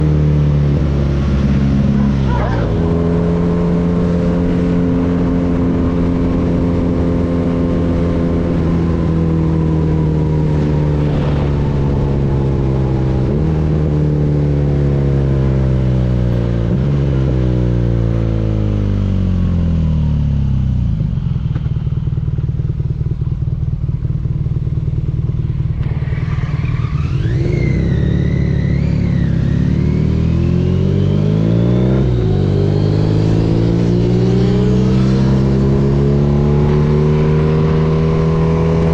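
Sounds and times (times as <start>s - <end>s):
motorcycle engine revving and shifting: 0.0s - 38.9s.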